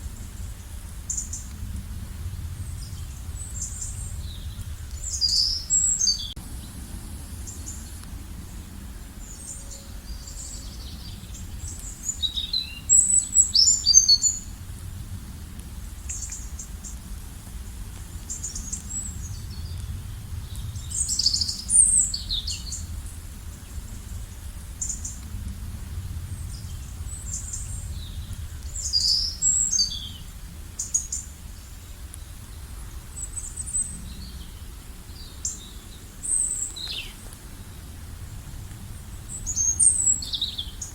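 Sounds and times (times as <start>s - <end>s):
low background rumble: 0.0s - 40.9s
songbirds chirping and trilling: 2.3s - 15.0s, 17.7s - 40.9s.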